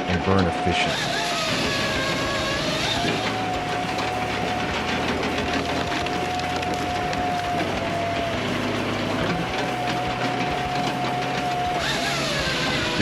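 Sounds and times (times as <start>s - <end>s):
log splitter running: 0.0s - 13.0s.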